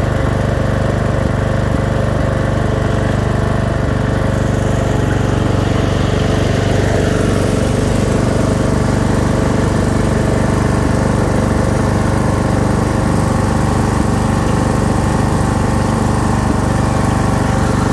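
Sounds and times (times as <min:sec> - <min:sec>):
lawn tractor engine running: 0:00.0 - 0:17.9.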